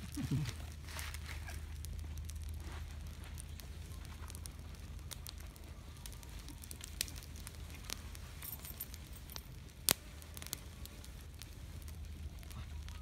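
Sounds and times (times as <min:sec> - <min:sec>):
fire crackling: 0:00.0 - 0:13.0
sharp pops from fire: 0:00.0 - 0:13.0.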